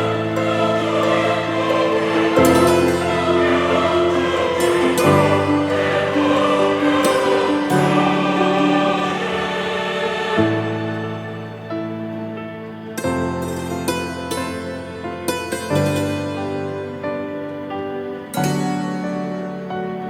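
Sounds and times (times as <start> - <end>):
music of slow held chords: 0.0 - 20.0.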